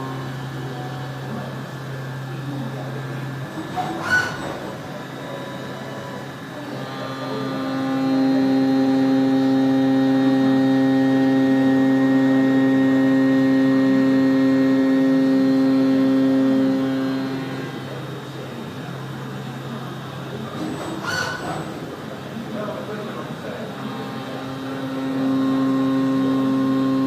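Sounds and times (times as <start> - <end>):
milling machine spindle whine: 0.0 - 27.0.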